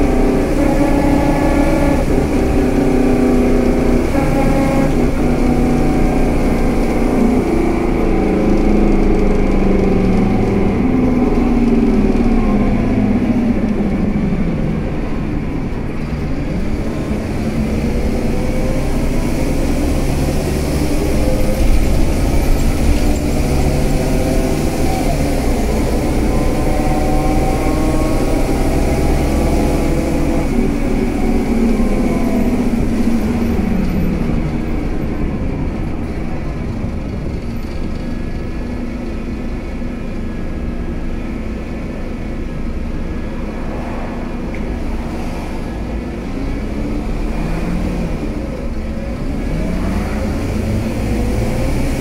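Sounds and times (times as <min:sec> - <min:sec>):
bus diesel engine pulling: 0:00.0 - 0:52.0.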